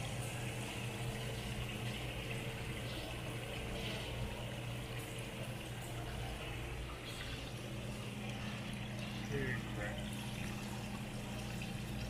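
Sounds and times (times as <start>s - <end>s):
water streaming and bubbling: 0.0s - 12.0s.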